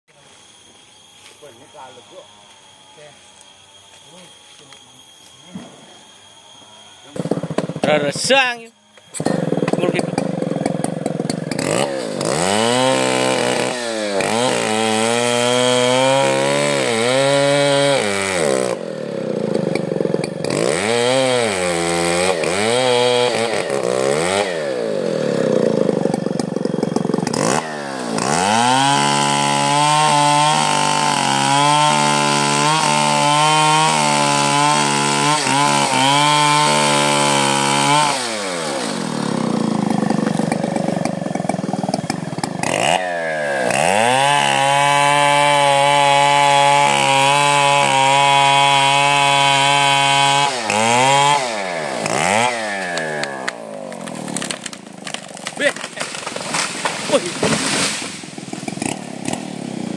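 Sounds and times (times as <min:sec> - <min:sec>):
chainsaw revving and cutting wood: 0:00.2 - 0:59.9.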